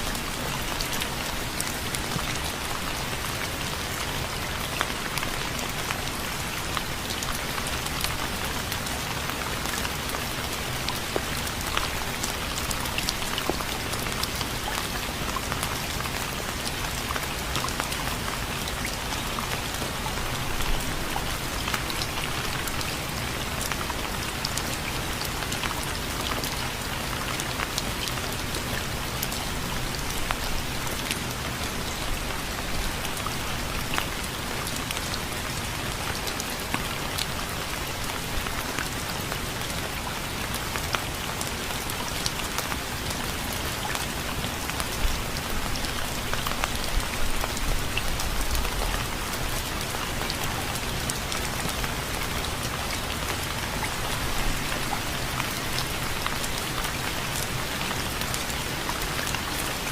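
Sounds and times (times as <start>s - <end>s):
rain drops ticking on a surface: 0.0s - 59.9s.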